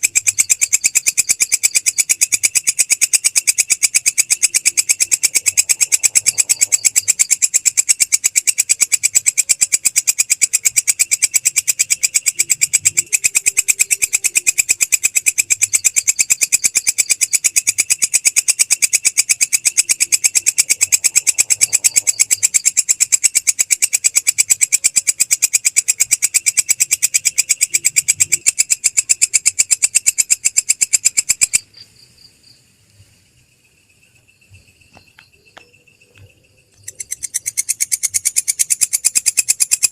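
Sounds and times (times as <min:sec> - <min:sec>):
grasshopper stridulating: 0:00.0 - 0:39.9.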